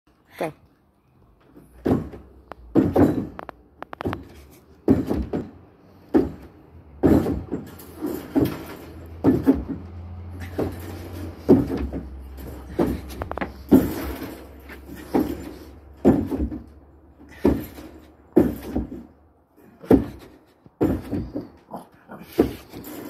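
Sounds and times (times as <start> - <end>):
thuds on wooden decking: 1.6 - 21.6, 22.3 - 23.0.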